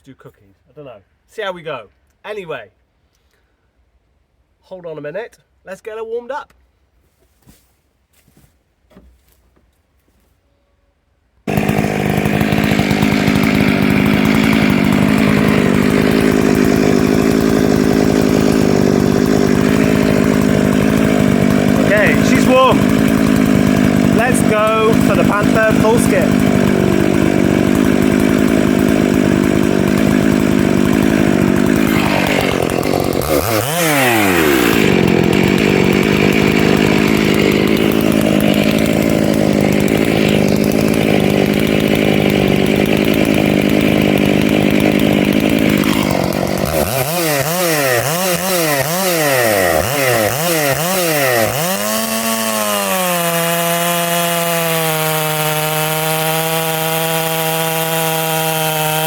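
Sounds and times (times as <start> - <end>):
chainsaw cutting log: 11.5 - 59.0
chainsaw idling: 11.5 - 59.0
chainsaw throttle blipping: 11.5 - 59.0.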